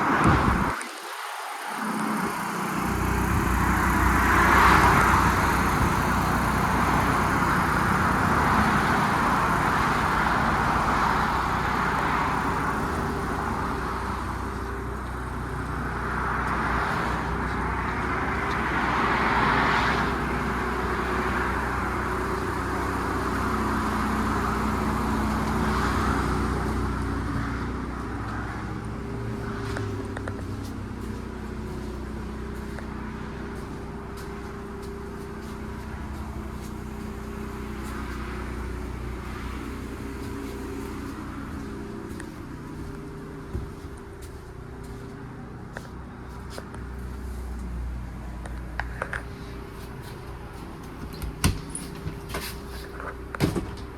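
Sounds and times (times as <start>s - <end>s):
low engine hum: 0.0s - 0.8s, 1.8s - 53.9s
vehicles passing: 0.0s - 53.9s.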